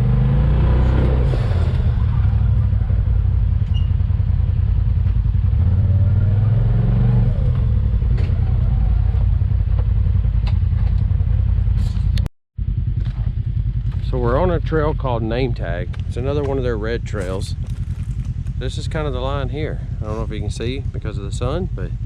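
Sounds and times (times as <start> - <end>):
utv engine running: 0.0 - 22.0.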